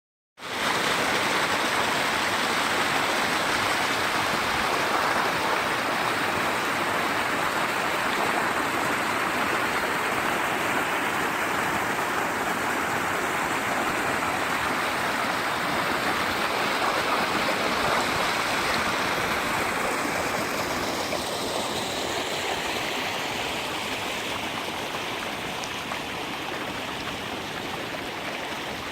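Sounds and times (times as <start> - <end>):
stream rushing water: 0.4 - 28.9.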